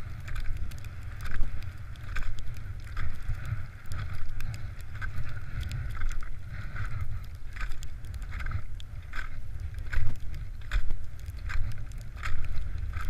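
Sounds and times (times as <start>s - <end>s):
skis scraping over snow: 0.0s - 13.0s
wind rumble on microphone: 0.0s - 13.0s.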